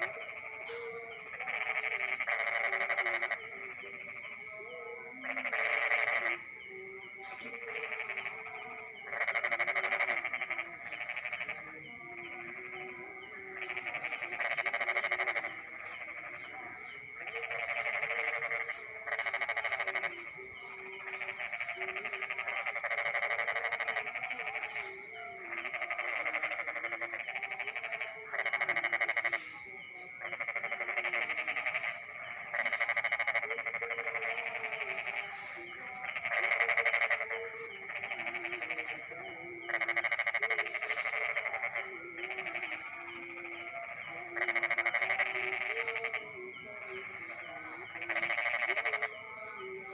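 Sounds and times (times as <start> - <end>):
frogs calling: 0.0 - 49.9
high-pitched insect trill: 0.0 - 49.9.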